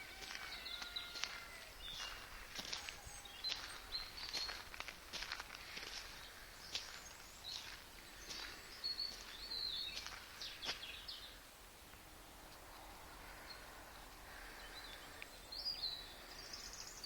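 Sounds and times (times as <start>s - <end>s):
small birds chirping: 0.0s - 12.0s, 12.6s - 17.0s.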